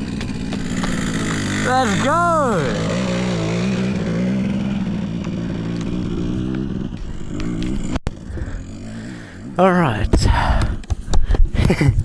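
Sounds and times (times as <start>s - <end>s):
motorcycle engine under throttle: 0.0s - 11.1s.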